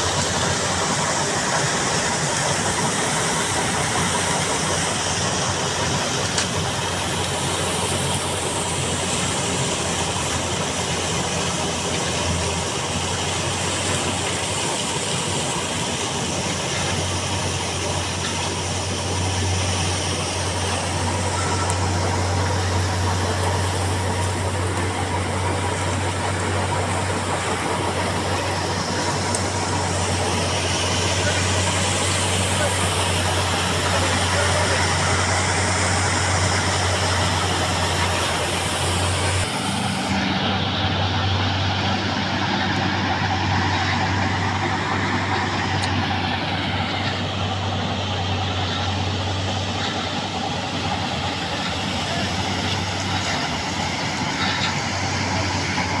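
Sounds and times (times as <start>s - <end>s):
low machinery hum: 0.0s - 56.0s.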